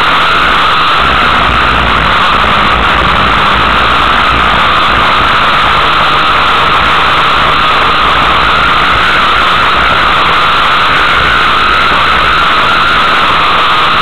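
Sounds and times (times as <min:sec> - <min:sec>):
race car engine running: 0:00.0 - 0:14.0.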